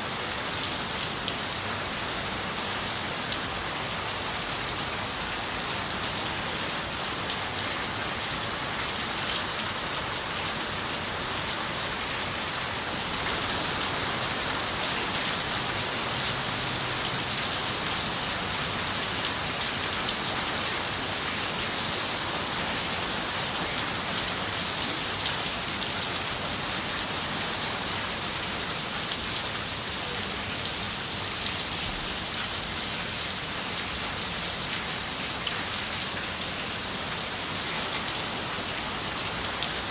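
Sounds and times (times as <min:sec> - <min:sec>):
rain hissing on a window: 0:00.1 - 0:39.9.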